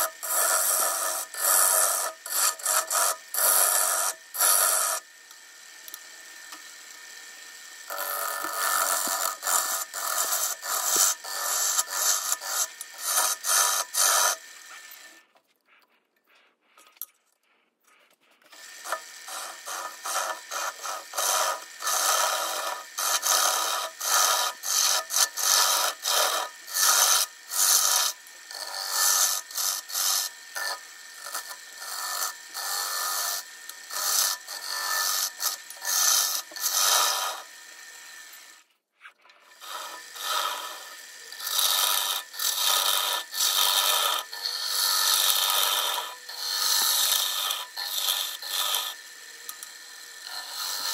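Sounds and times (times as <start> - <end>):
wood being sanded by hand: 0.0 - 5.1, 7.8 - 15.3, 18.3 - 37.6, 39.5 - 49.2, 49.9 - 50.9.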